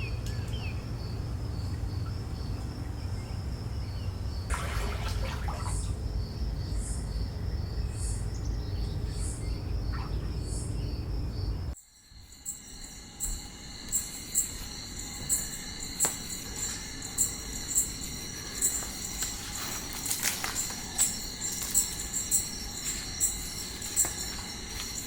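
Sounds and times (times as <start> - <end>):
night insects chirping: 0.0 - 25.0.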